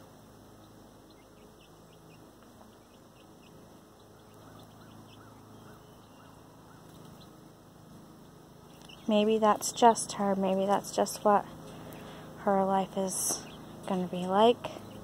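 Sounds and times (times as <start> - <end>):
young chickens cheeping: 0.4 - 7.5, 8.1 - 12.4, 13.0 - 15.0.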